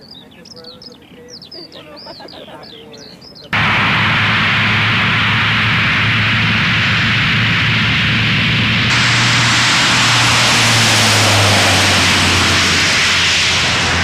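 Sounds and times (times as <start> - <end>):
low propeller hum: 0.0 - 14.0
turboprop aircraft taxiing: 0.0 - 14.0.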